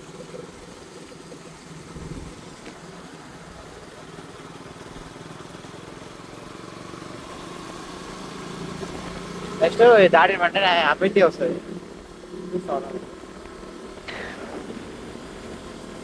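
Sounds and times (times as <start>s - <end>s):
faint steady whine: 0.0s - 16.0s
motorcycle engine cruising: 0.0s - 16.0s
wind and road noise: 0.0s - 16.0s.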